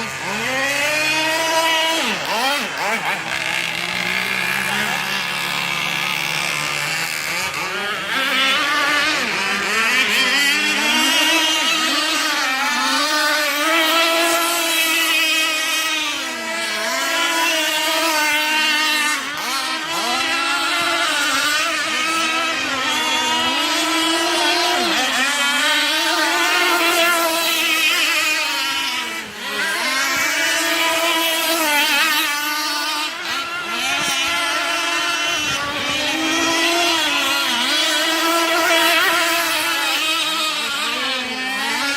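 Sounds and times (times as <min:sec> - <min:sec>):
model boat engine whine: 0:00.0 - 0:41.9.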